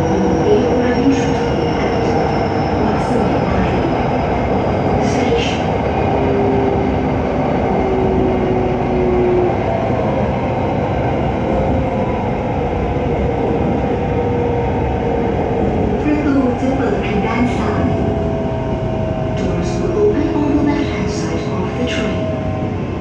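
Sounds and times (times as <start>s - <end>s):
train rumble inside carriage: 0.0s - 23.0s.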